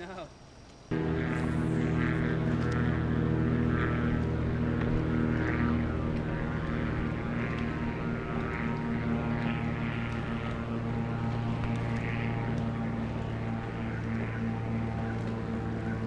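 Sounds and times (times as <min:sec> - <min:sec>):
steady engine drone: 0:00.9 - 0:16.0.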